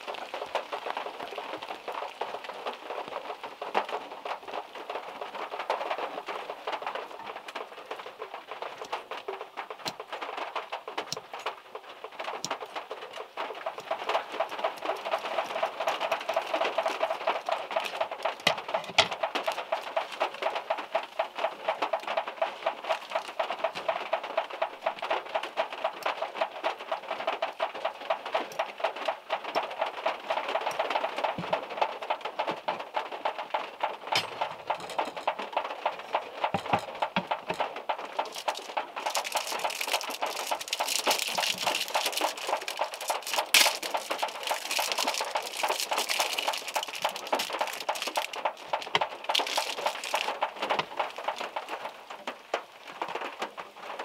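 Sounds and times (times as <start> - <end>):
rain pattering on car roof: 0.0 - 54.0.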